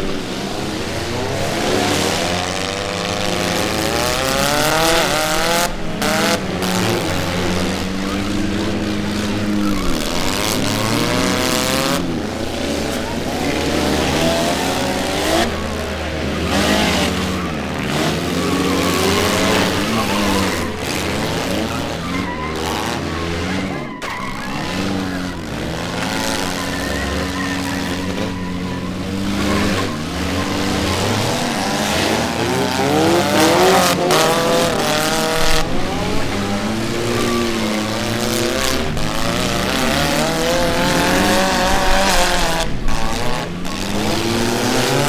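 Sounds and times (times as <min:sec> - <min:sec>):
car engines revving: 0:00.0 - 0:45.0
cars crashing: 0:00.0 - 0:45.0
tyres squealing: 0:01.1 - 0:45.0.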